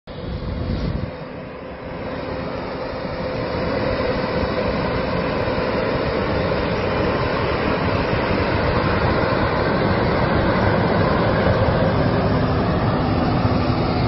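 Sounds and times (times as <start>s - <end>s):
diesel engines rumbling: 0.1s - 14.0s.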